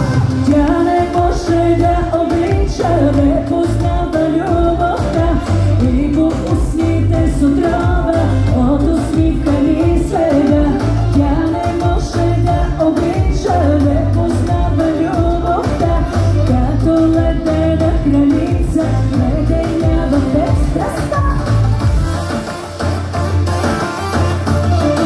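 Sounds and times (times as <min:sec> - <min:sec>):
woman singing: 0:00.0 - 0:21.8
pulsing bass beat: 0:00.0 - 0:22.3.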